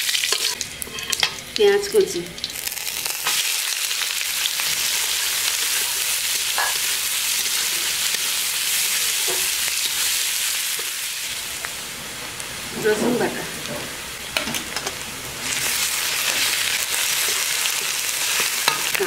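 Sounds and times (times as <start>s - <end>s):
onion sizzling in hot oil: 0.0s - 19.0s.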